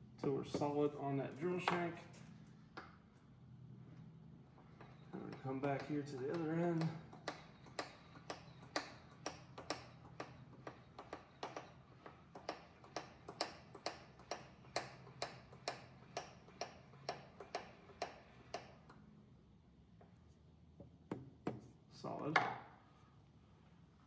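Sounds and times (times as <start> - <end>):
milling machine table hum: 0.0 - 22.7.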